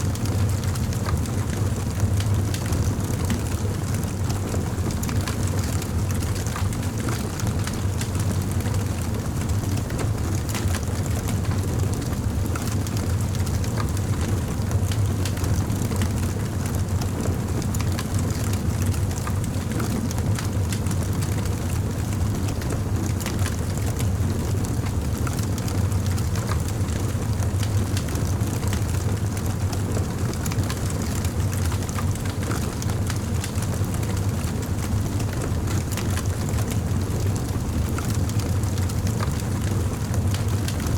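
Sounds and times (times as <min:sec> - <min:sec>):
low rumble of flames: 0:00.0 - 0:40.9.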